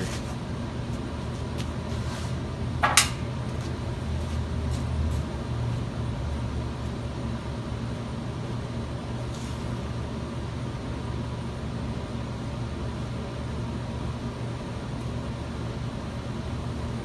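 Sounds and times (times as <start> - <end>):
shop equipment humming: 0.0 - 17.0.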